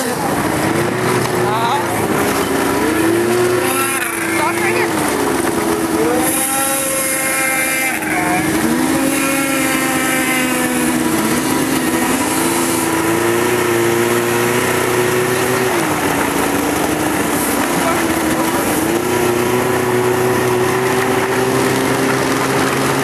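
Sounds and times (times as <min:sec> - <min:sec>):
snowmobile engines revving: 0:00.0 - 0:23.0.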